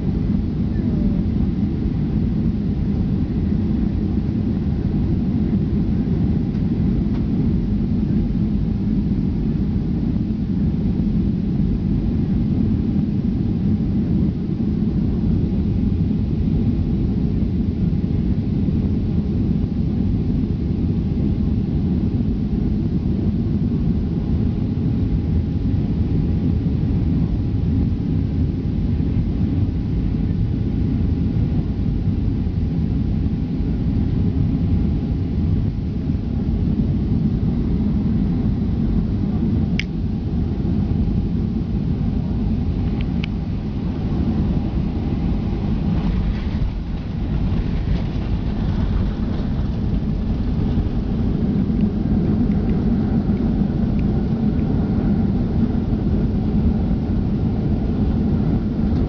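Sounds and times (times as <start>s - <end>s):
faint steady hum: 0.0s - 59.0s
jet airliner cabin rumble: 0.0s - 59.0s.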